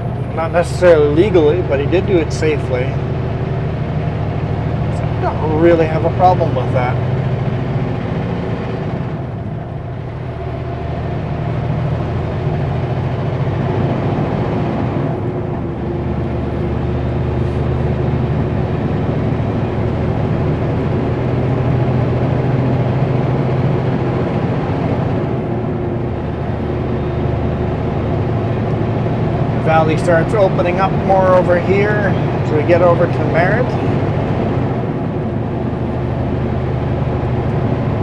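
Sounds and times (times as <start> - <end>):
road and tyre noise: 0.0 - 38.0
truck diesel engine drone: 0.0 - 38.0.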